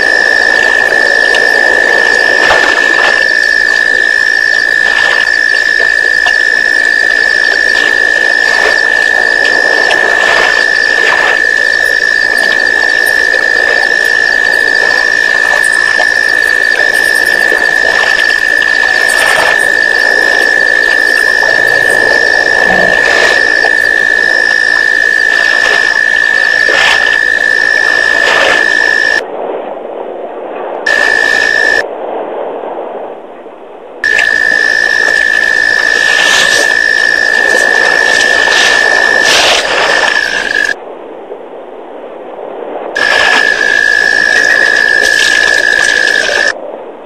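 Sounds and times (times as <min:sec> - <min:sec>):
high-pitched whine: 0:00.0 - 0:29.2, 0:30.9 - 0:31.8, 0:34.0 - 0:40.8, 0:43.0 - 0:46.6.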